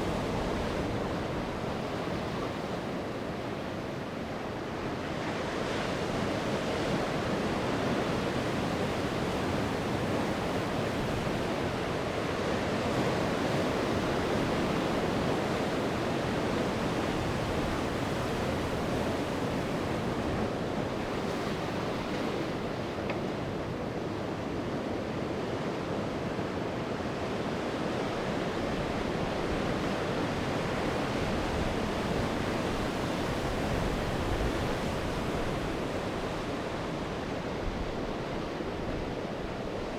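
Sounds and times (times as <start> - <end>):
sea waves breaking on shore: 0.0 - 39.9
wind: 0.0 - 39.9.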